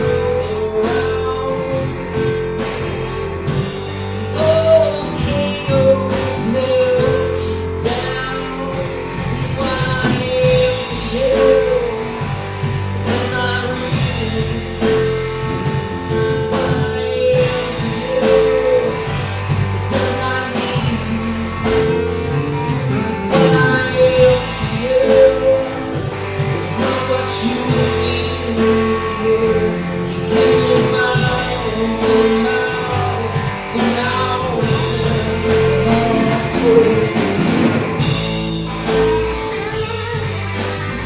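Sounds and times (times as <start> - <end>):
bass: 0.0 - 41.0
drum kit beat: 0.0 - 41.0
guitar: 0.0 - 41.0
person singing: 0.0 - 41.0.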